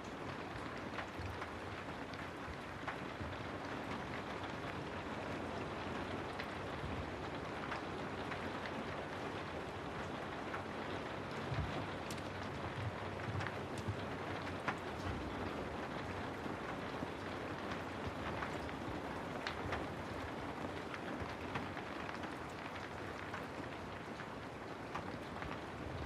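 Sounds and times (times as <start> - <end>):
raindrops tapping: 0.0 - 26.0
steady rain: 0.0 - 26.0.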